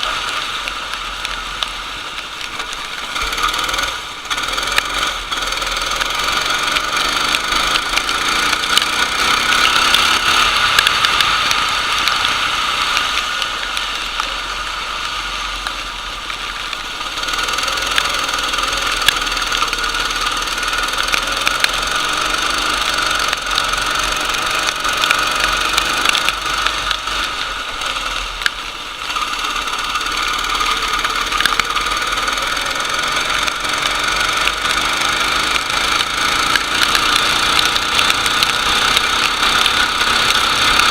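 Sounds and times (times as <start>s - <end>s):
crackly noise: 0.0s - 40.9s
racing kart engine revving: 0.0s - 40.9s.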